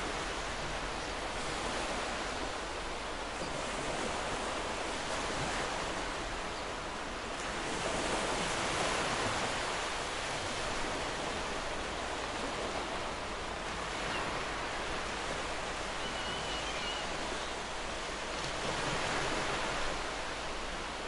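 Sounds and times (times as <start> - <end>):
waves washing onto a beach: 0.0 - 21.0.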